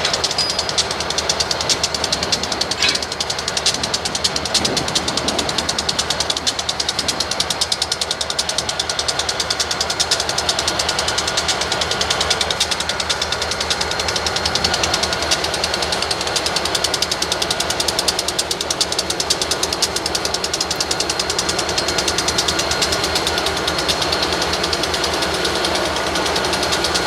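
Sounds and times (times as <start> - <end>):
train rumble: 0.0 - 27.0
train wheels clicking: 0.0 - 27.0.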